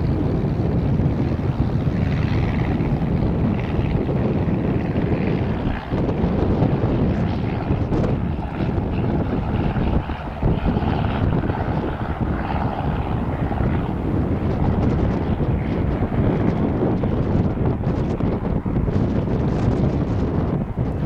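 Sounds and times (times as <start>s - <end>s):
propeller plane engine running: 0.0s - 21.0s
wind buffeting microphone: 0.0s - 21.0s.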